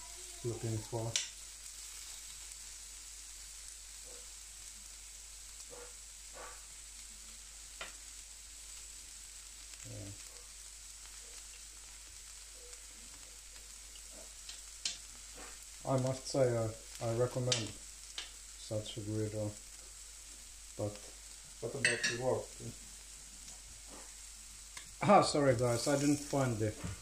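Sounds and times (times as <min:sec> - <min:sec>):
food sizzling on griddle: 0:00.0 - 0:27.0.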